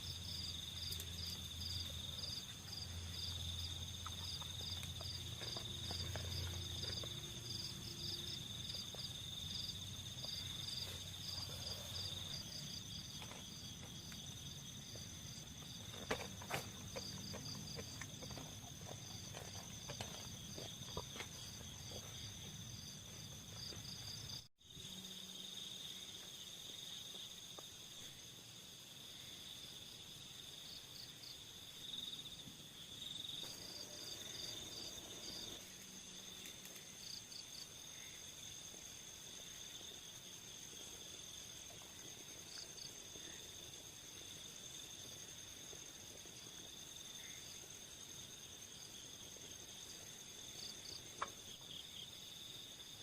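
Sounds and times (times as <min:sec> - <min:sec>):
insects buzzing: 0:00.0 - 0:53.0
insects chirping rapidly: 0:00.0 - 0:53.0.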